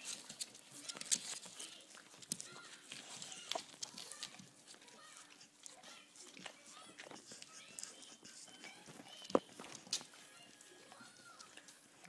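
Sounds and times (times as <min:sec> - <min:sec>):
puppies chewing rubber toy: 0:00.0 - 0:12.0.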